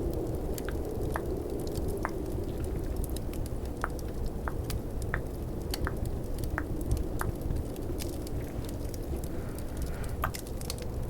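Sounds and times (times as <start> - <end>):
fireplace crackling: 0.0 - 11.0
snowstorm wind: 0.0 - 11.0.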